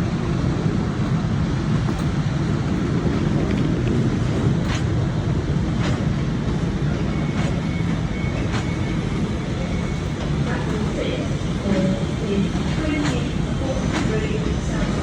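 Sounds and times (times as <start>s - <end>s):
train rumbling on track: 0.0s - 15.0s
sharp clicks of train wheels: 0.1s - 15.0s.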